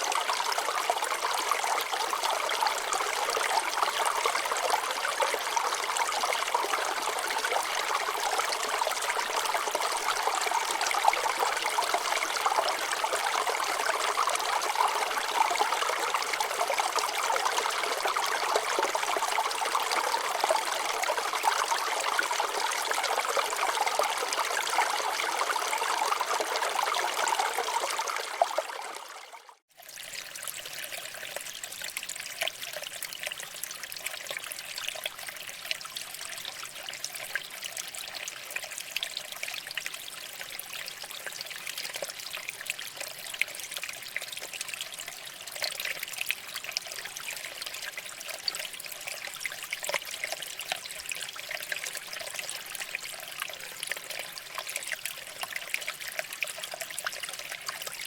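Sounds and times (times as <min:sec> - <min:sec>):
small water splashes: 0:00.0 - 0:58.0
water trickling over rocks: 0:00.0 - 0:58.0.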